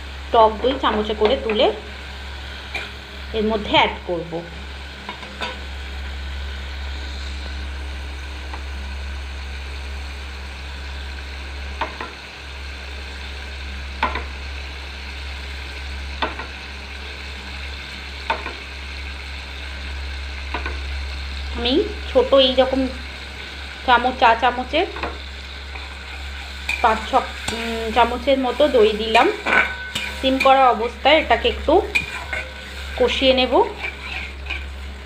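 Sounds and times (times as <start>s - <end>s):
masala sizzling in a wok: 0.0s - 35.0s
steady low hum: 0.0s - 35.0s.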